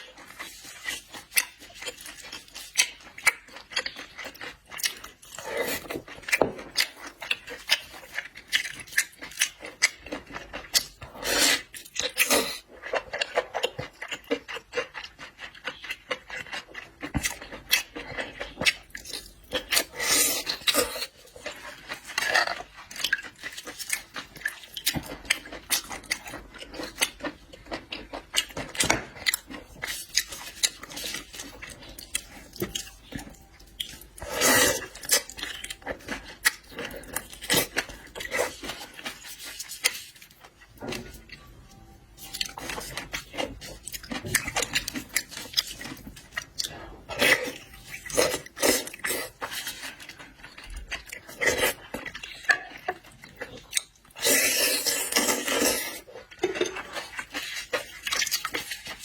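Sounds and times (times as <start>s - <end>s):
chewing: 0.0s - 59.0s.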